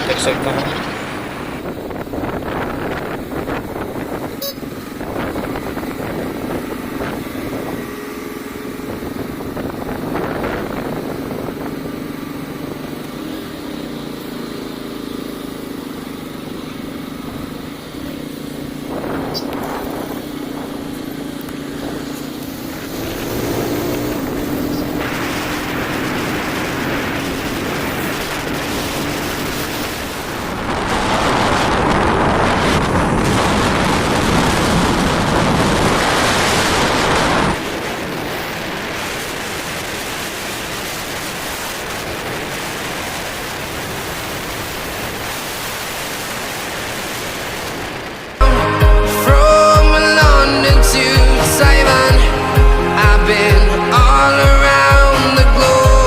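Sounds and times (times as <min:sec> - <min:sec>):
vehicle engines droning: 0:00.0 - 0:56.0.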